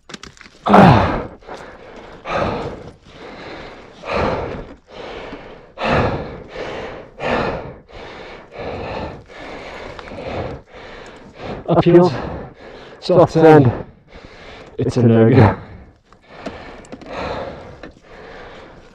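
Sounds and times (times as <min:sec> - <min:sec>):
man breathing hard: 0:00.7 - 0:14.8, 0:15.4 - 0:18.9.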